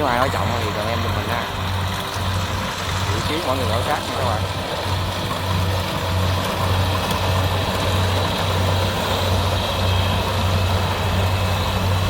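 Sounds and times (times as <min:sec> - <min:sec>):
combine harvester engine droning: 0:00.0 - 0:12.0
threshing machinery clattering: 0:00.0 - 0:12.0.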